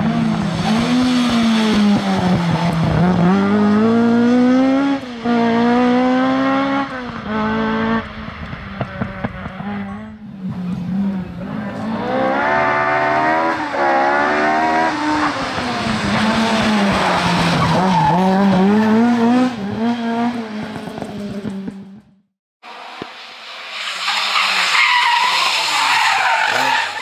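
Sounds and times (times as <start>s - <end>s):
rally car engine revving: 0.0s - 22.1s.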